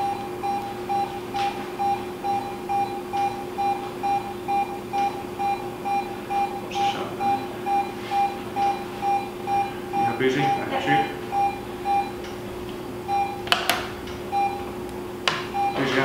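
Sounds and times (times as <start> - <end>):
pulse oximeter beeping: 0.0 - 12.3, 13.0 - 13.6, 14.2 - 16.0
steady low hum: 0.0 - 16.0.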